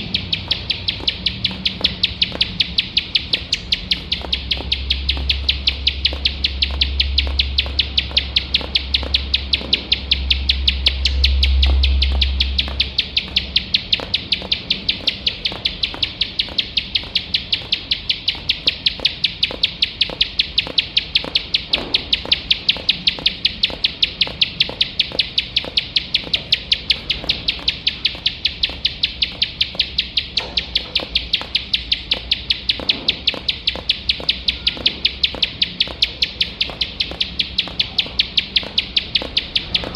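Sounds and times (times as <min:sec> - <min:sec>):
bird singing sharp ticking notes: 0:00.0 - 0:39.9
continuous high buzz: 0:00.0 - 0:39.9.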